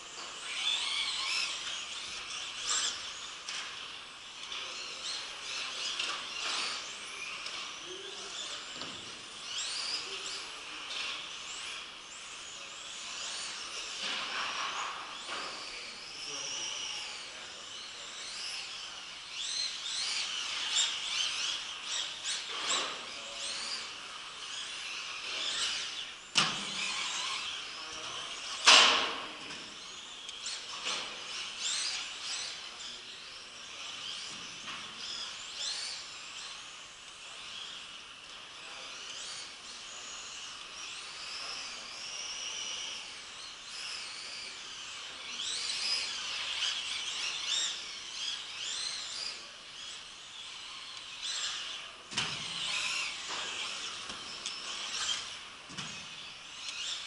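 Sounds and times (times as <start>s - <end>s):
electric rc car motors whining: 0.0s - 57.0s.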